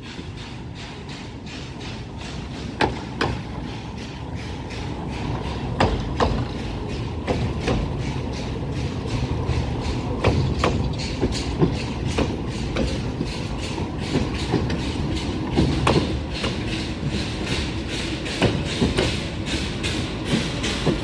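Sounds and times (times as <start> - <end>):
train coaches rumbling past: 0.0 - 21.0
wheels clicking over rail joints: 0.0 - 21.0.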